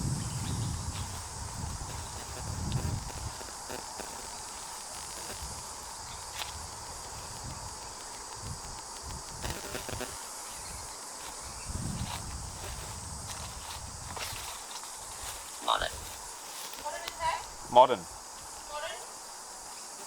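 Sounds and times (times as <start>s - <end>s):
faint footsteps: 0.0s - 20.0s
high insect chirring: 0.0s - 20.0s.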